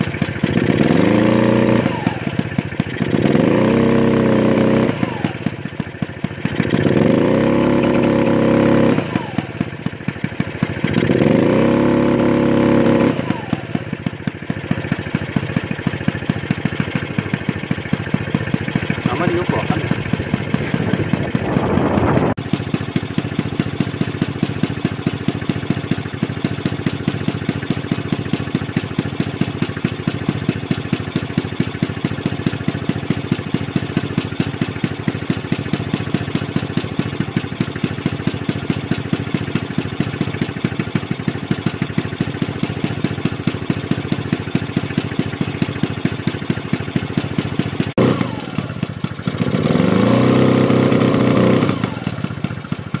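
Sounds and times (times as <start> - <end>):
scooter engine idling and revving: 0.0 - 53.0.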